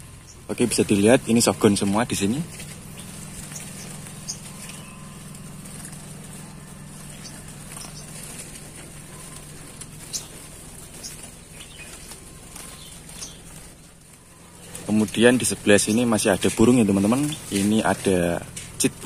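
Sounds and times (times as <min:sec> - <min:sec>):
bird chirps: 0:00.0 - 0:19.0
birds fluttering in cages: 0:00.0 - 0:19.0
low hum: 0:00.0 - 0:19.0.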